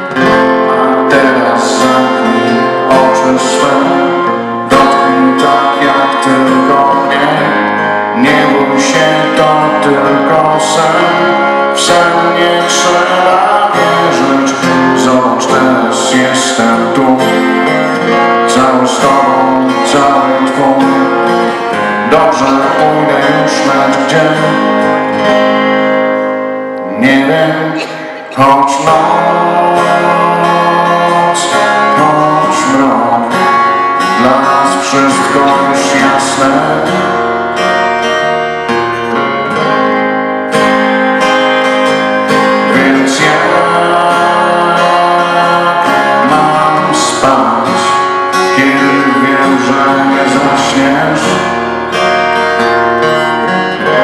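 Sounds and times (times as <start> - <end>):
man singing: 0.0 - 25.5, 26.8 - 38.2, 42.3 - 52.0, 53.4 - 54.0
strummed acoustic guitar: 0.0 - 54.0.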